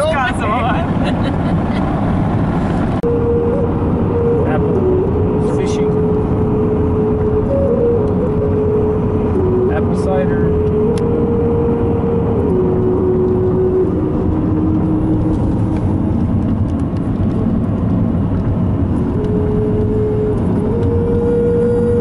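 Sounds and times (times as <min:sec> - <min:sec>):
car road and engine noise: 0:00.0 - 0:22.0
steady tone stepping in pitch: 0:02.3 - 0:22.0.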